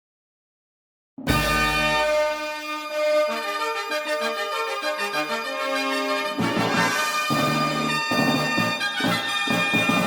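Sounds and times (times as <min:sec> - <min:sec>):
accordion-like chords and melody: 0:01.3 - 0:10.0.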